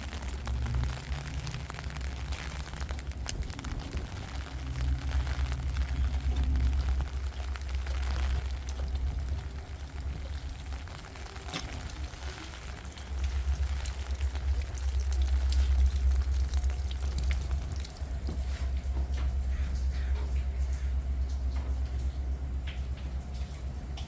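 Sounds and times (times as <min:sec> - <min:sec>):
road and tyre noise: 0:00.0 - 0:19.4
rain pattering on car: 0:00.0 - 0:24.0.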